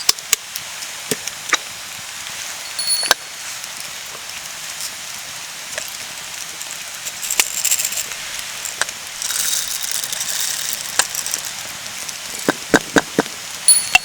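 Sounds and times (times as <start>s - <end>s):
campfire crackling and popping: 0.0s - 14.0s
rain hissing: 0.0s - 14.0s.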